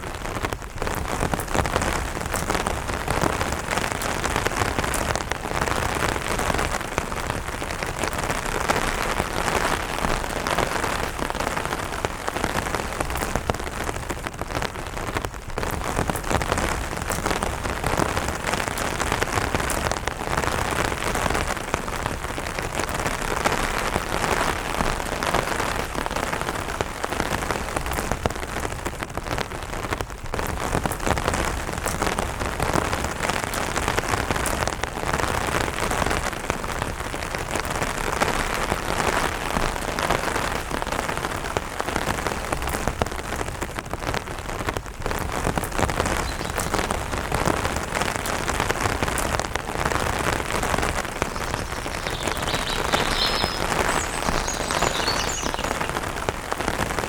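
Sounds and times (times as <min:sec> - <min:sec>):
rain on umbrella: 0:00.0 - 0:57.0.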